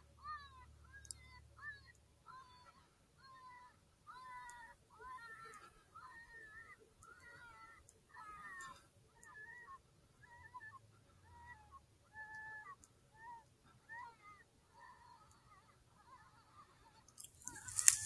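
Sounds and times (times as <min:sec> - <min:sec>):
rabbit distress squeals: 0:00.2 - 0:16.8, 0:17.4 - 0:18.0.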